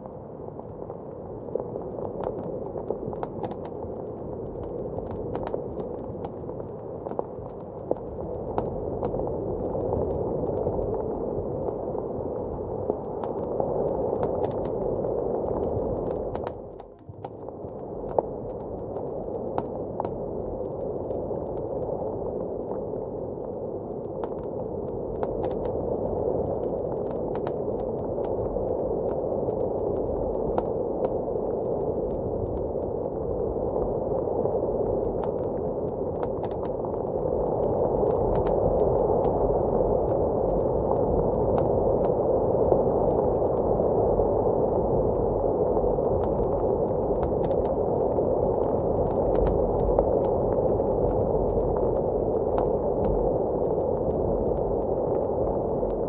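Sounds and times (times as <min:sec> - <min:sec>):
muffled blizzard wind roar: 0:00.0 - 0:56.0
wood fire crackling and popping: 0:00.6 - 0:56.0.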